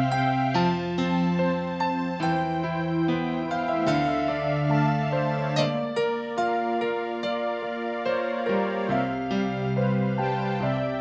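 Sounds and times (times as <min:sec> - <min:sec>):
keyboard melody notes: 0:00.0 - 0:11.0
slow keyboard chords: 0:00.0 - 0:11.0.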